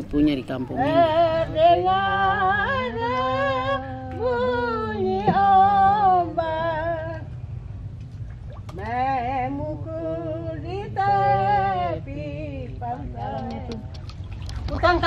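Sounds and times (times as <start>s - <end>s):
woman singing slow song: 0.7s - 7.6s, 8.7s - 14.0s.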